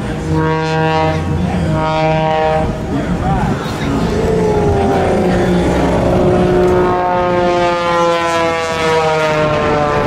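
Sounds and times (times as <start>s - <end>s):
airplane engine droning overhead: 0.0s - 10.0s.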